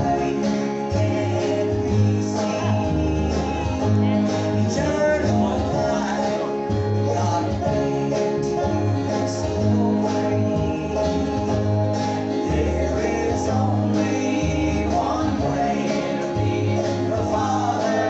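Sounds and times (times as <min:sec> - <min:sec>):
group singing: 0:00.0 - 0:18.0
guitar accompaniment: 0:00.0 - 0:18.0
pulsing bass line: 0:00.0 - 0:18.0.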